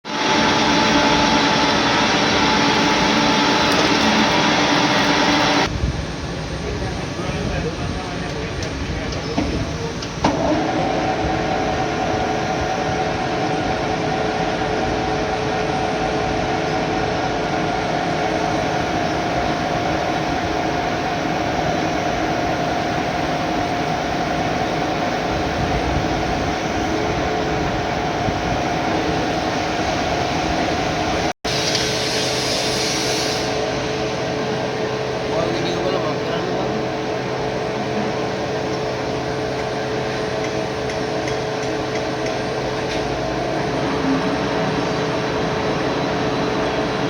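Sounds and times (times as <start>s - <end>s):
lathe running: 0.0s - 5.7s, 9.8s - 47.0s.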